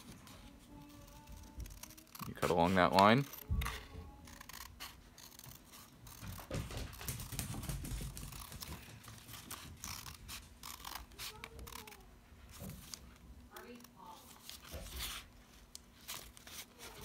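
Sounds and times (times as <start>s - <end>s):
scissors snipping paper: 0.0s - 7.4s, 8.2s - 17.0s.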